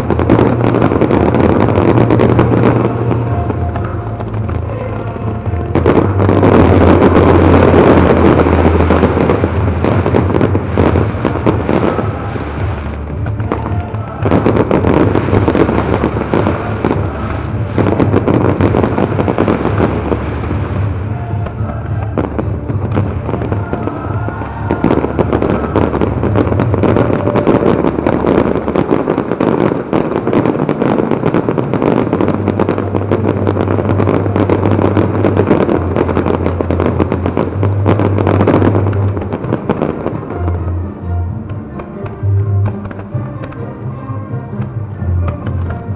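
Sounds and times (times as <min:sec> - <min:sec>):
fireworks bursting: 0:00.0 - 0:45.9.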